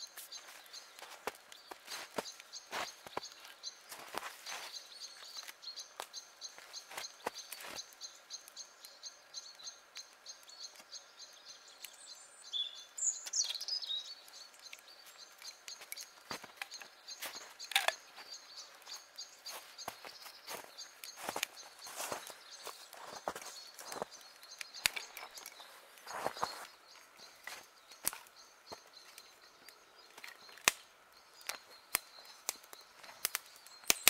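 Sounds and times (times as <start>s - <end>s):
logs crackling and popping: 0.0s - 34.0s.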